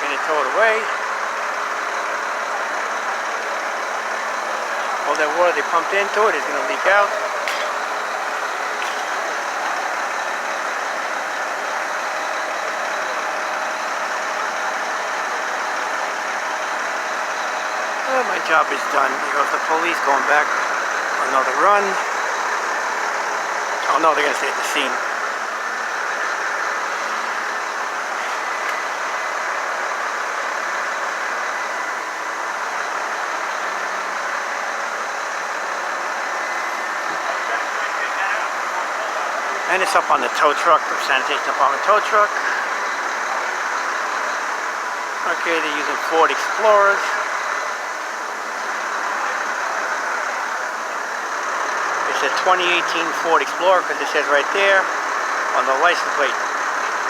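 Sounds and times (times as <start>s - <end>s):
street traffic noise: 0.0s - 57.0s
vehicle engines idling: 0.0s - 57.0s.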